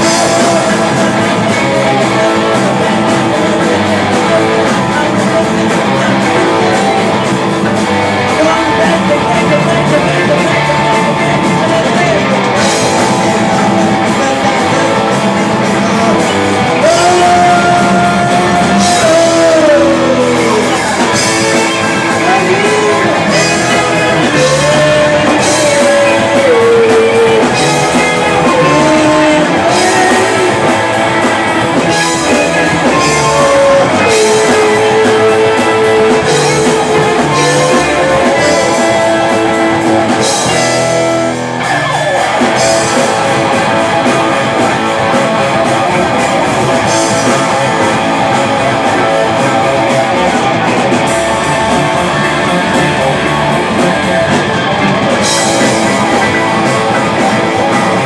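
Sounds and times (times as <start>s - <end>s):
rock band playing: 0.0s - 58.0s
singer singing: 0.0s - 58.0s.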